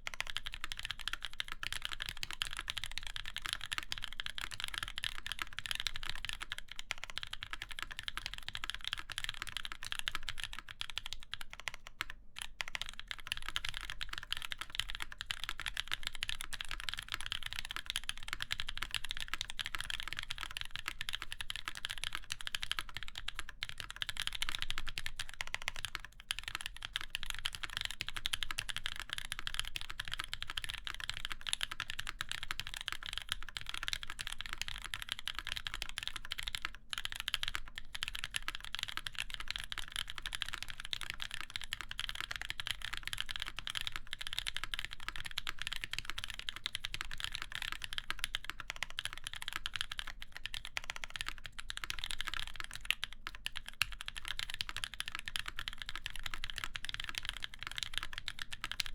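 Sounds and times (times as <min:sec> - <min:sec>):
fast mechanical keyboard typing: 0:00.0 - 0:58.9.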